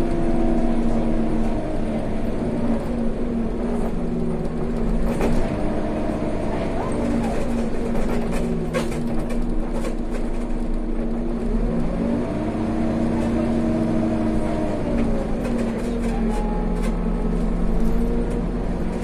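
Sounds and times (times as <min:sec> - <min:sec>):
bus engine hum and whine: 0:00.0 - 0:19.0.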